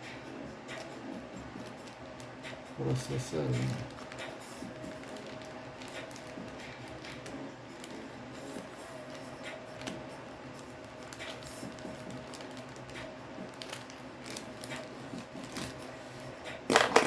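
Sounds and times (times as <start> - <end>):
packaging rustling and scraping: 1.5 - 17.0.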